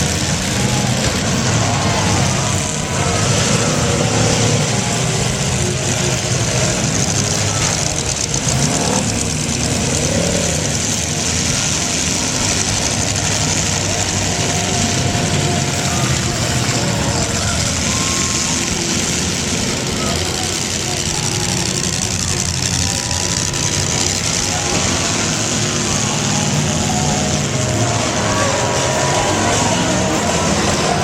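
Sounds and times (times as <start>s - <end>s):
car engines running loudly: 0.0s - 31.0s.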